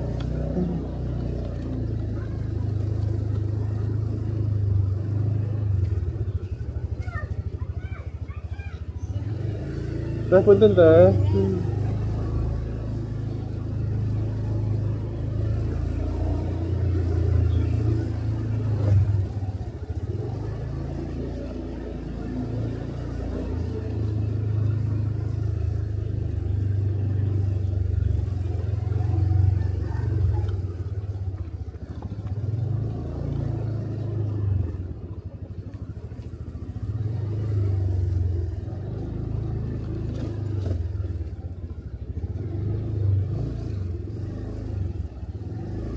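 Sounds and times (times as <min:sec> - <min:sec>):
motorcycle engine rumbling: 0:00.0 - 0:45.9
road noise: 0:00.0 - 0:45.9.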